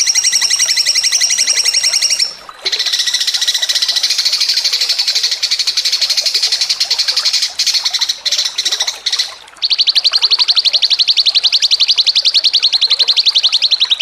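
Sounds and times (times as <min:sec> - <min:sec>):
songbird trilling: 0:00.0 - 0:14.0.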